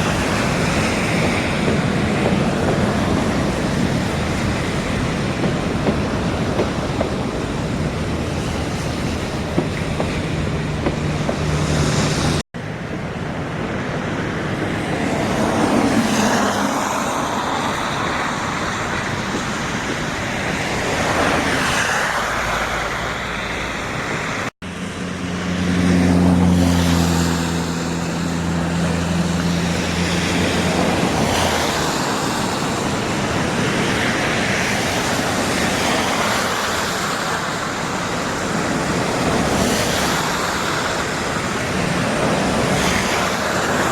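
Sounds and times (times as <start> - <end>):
outdoor vehicle rumble: 0.0 - 43.9.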